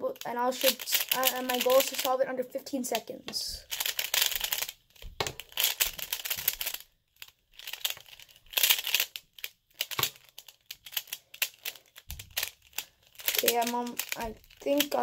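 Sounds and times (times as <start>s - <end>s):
plastic puzzle pieces clicking: 0.5s - 2.1s, 3.7s - 15.0s.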